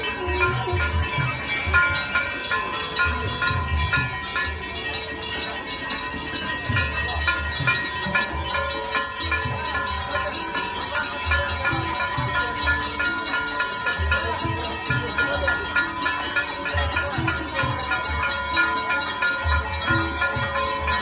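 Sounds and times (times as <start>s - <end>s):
temple bells ringing: 0.0s - 21.0s.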